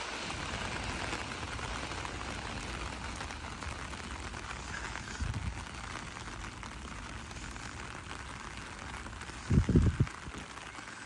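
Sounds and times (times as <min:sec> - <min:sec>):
heavy rain on pavement: 0:00.0 - 0:11.0.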